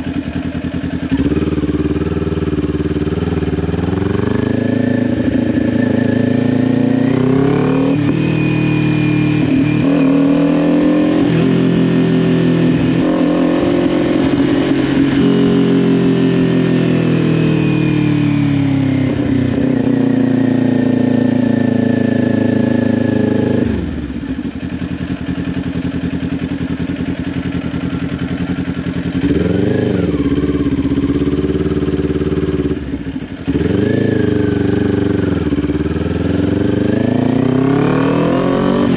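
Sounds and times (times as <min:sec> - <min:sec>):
motorcycle engine revving: 0:00.0 - 0:38.9
motorcycle engine shifting gears: 0:00.0 - 0:38.9.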